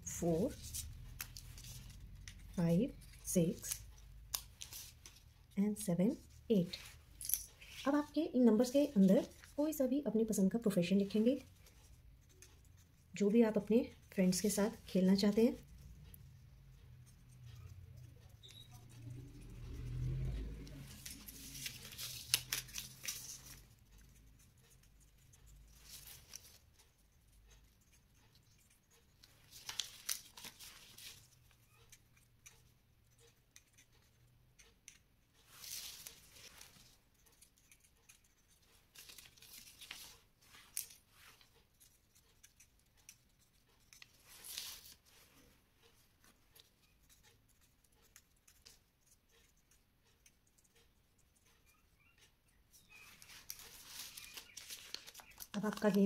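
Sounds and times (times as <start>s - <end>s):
marker scratching on paper: 0.0s - 7.0s, 7.6s - 56.0s.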